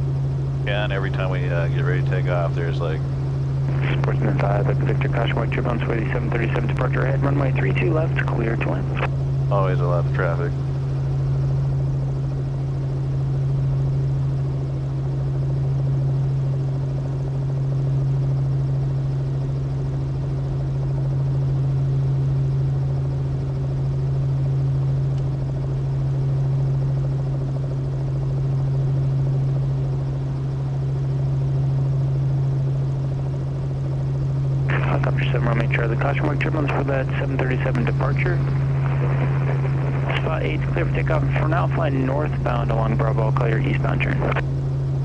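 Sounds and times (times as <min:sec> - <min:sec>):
helicopter engine and rotor running: 0:00.0 - 0:45.0.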